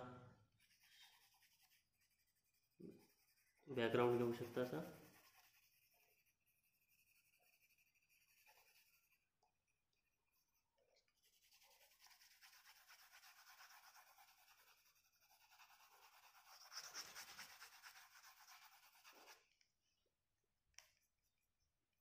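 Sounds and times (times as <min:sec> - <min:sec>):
pencil scratching on paper: 0:00.6 - 0:19.4, 0:20.8 - 0:22.0.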